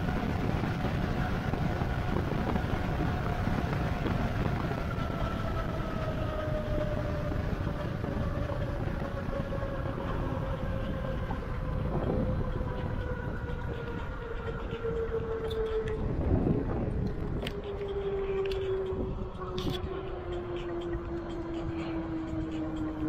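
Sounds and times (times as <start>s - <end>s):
wind and tyre rumble: 0.0s - 23.0s.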